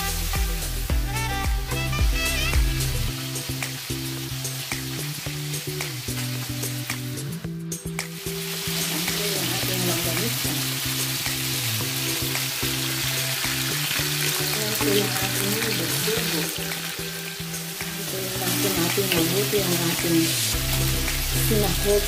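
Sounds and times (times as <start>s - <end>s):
background music with low notes: 0.0s - 22.0s
frying sizzle in hot oil: 0.0s - 22.0s.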